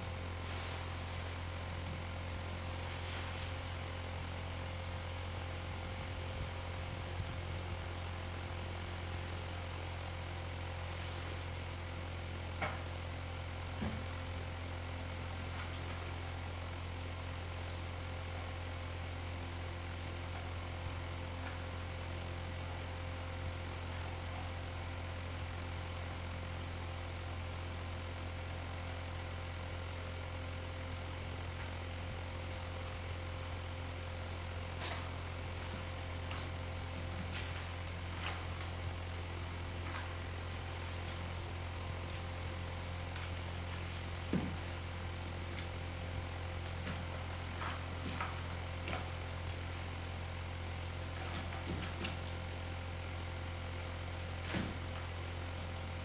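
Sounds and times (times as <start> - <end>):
low electrical hum: 0.0 - 56.0
thin steady whine: 0.0 - 56.0.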